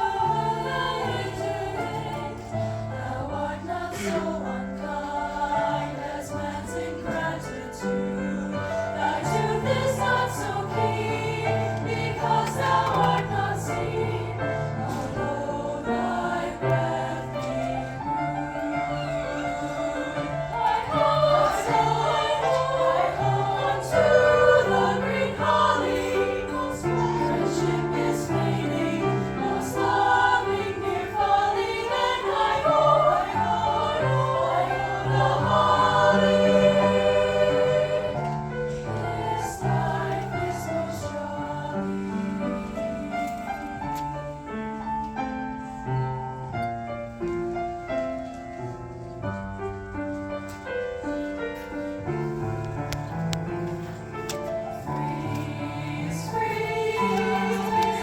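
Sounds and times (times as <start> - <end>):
choir singing: 0.0 - 44.6, 50.8 - 58.0
piano accompaniment: 0.0 - 58.0.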